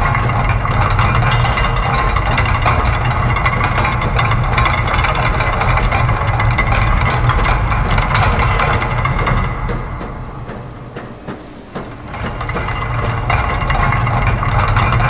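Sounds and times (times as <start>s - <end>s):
clattering clicks from gears: 0.0s - 15.0s
low machine hum: 0.0s - 15.0s.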